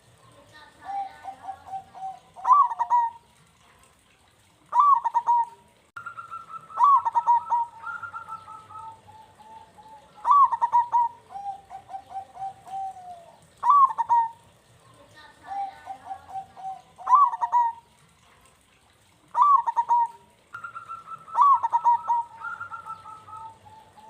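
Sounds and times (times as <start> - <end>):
dove rippling trill: 0.0 - 24.0
doves cooing: 0.0 - 24.0.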